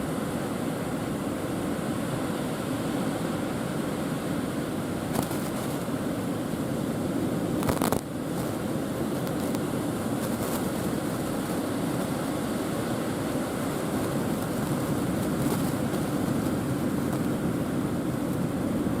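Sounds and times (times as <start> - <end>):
surf rushing: 0.0 - 19.0
wind rumbling on microphone: 0.0 - 19.0.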